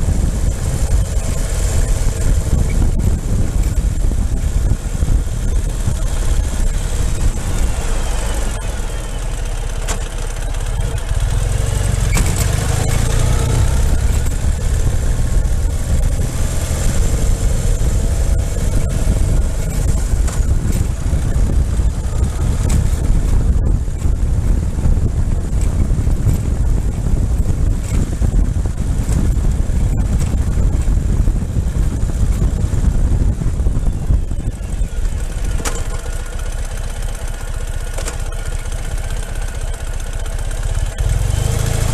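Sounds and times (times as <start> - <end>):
motorcycle engine running: 0.0 - 41.9
road rumble: 0.0 - 41.9
wind: 0.0 - 41.9.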